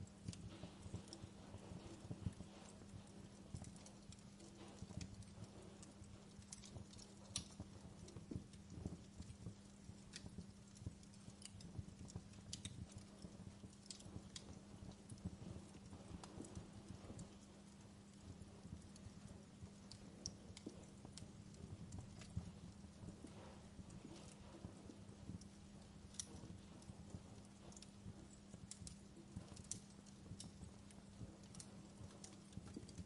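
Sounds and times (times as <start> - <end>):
low steady hum: 0.0 - 33.0
wood fire crackling: 0.0 - 33.0.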